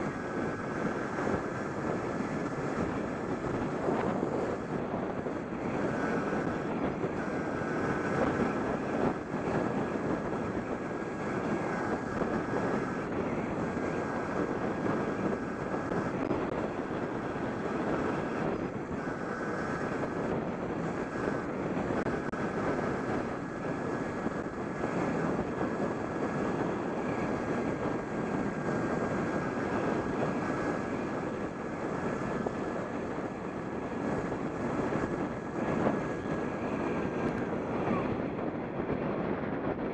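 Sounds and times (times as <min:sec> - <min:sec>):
electric bike drive whine: 0:00.0 - 0:39.9
wind rushing over microphone: 0:00.0 - 0:39.9.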